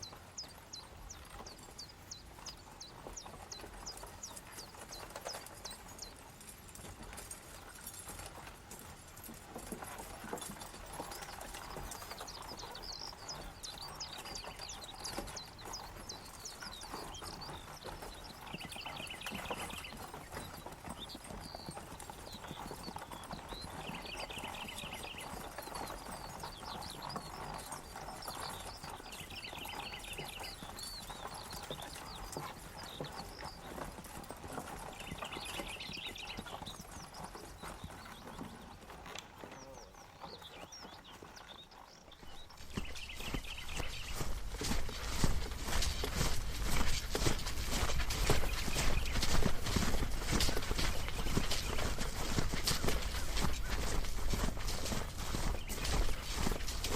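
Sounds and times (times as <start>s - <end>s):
horses hooves clip-clopping: 0.0s - 56.9s.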